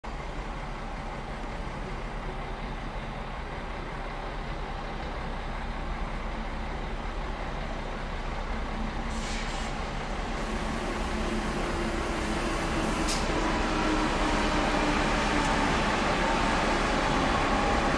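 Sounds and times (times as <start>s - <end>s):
train low rumble: 0.0s - 17.9s.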